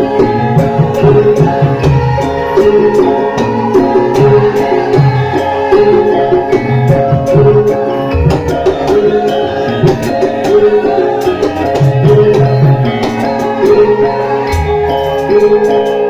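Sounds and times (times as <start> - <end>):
hand-drum strokes: 0.0 - 16.0
metallophone melodies: 0.0 - 16.0.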